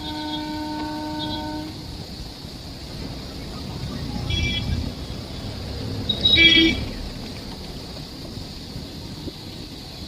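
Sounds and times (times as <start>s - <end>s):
rumble of moving traffic: 0.0s - 10.0s.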